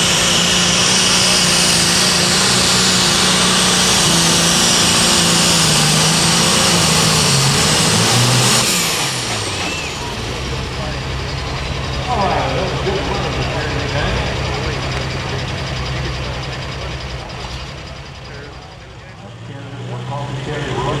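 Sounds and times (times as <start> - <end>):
high turbo whine: 0.0 - 21.0
tractor engine at full throttle: 0.0 - 21.0.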